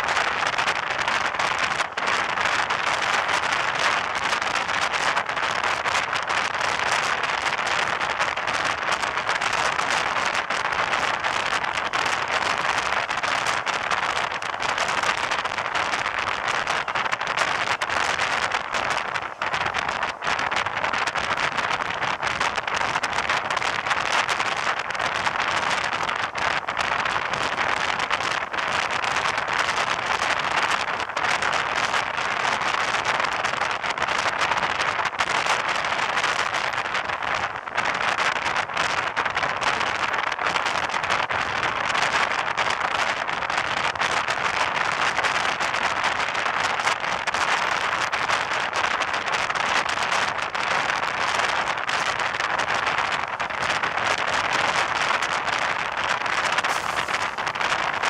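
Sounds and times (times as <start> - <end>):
road and wind noise: 0.0 - 58.0
small crackles: 0.0 - 58.0.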